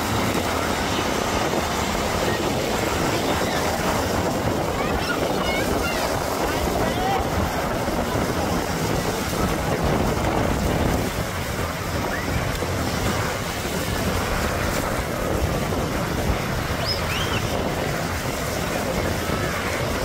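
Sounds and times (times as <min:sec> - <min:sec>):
helicopter rotor rumble: 0:00.0 - 0:20.0
surf: 0:00.0 - 0:20.0
wind buffeting microphone: 0:00.0 - 0:20.0.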